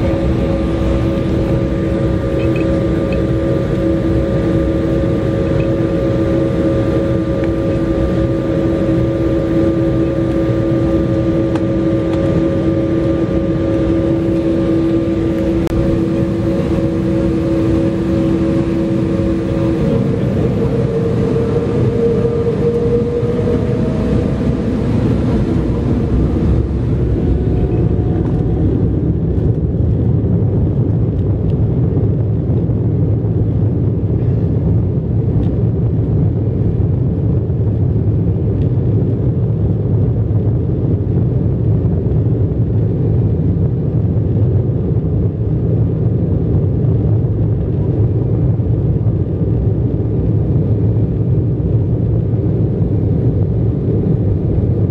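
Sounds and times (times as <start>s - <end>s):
engine and wheel rumble: 0.0s - 54.9s
faint whine: 0.0s - 54.9s.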